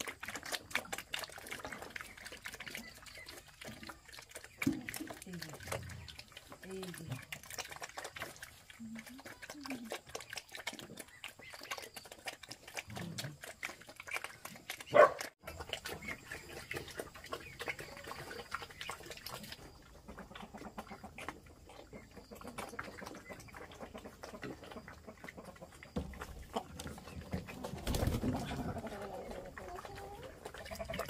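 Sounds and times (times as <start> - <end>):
pigs eating wet slop: 0.0 - 31.0.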